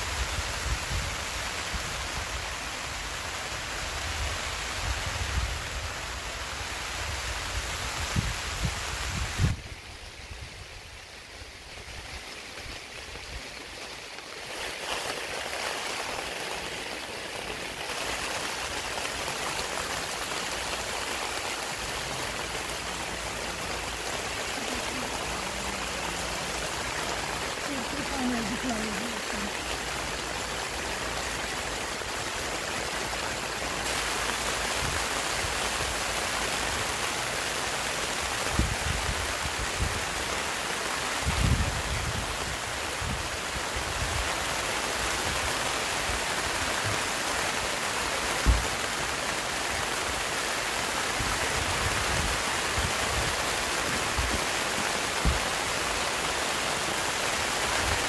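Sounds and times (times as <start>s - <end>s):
heavy rain on tent fabric: 0.0s - 58.0s.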